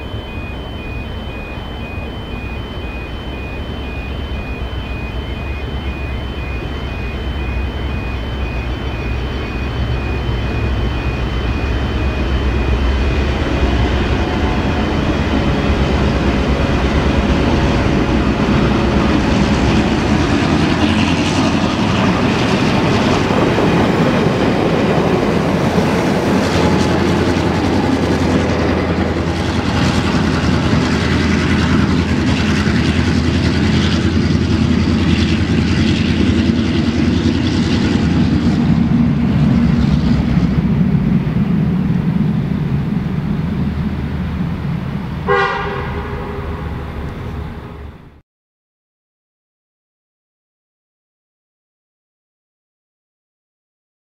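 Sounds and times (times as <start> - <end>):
locomotive engines running: 0.0 - 48.2.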